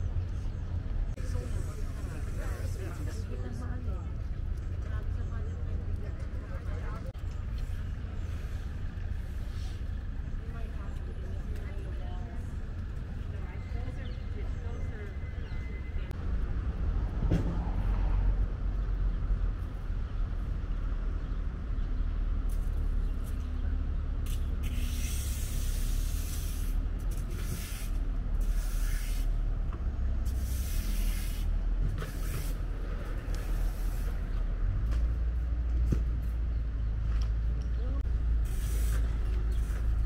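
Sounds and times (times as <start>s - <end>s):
low street rumble: 0.0s - 40.0s.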